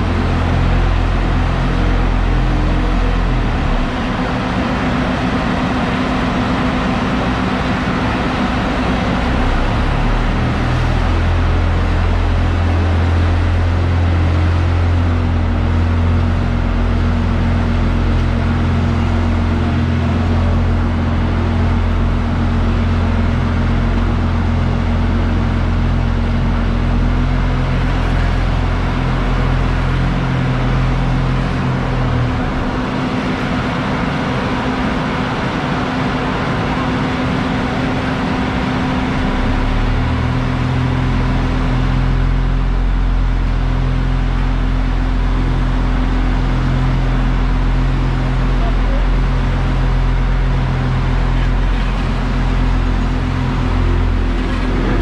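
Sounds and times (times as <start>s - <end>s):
diesel engines droning: 0.0s - 55.0s
steady hum: 0.0s - 55.0s.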